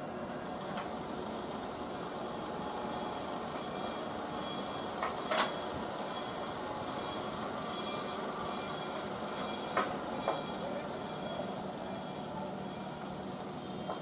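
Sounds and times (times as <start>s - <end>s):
electric train hum and hiss: 0.0s - 14.0s.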